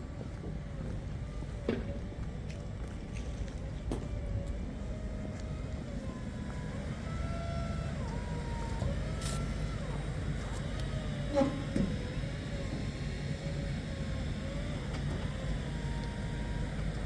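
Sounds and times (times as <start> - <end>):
low machinery rumble: 0.0 - 17.0.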